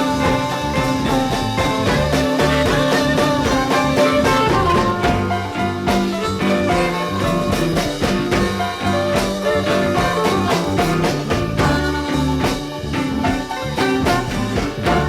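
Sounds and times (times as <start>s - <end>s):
blues band playing: 0.0s - 15.0s.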